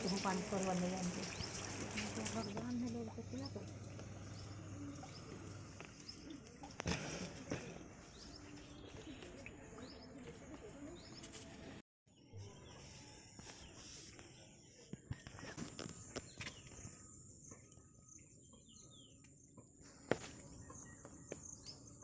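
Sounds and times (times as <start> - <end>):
faint outdoor background: 0.0 - 22.0
small birds chirping: 0.0 - 22.0.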